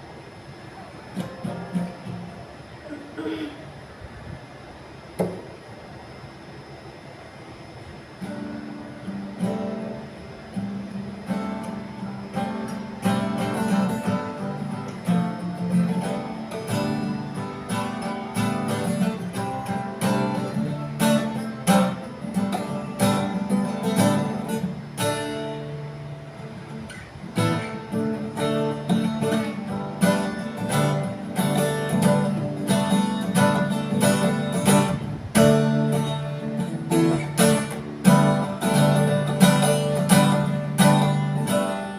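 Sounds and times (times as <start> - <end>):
acoustic guitar strummed and picked: 0.9 - 2.6, 8.2 - 41.9.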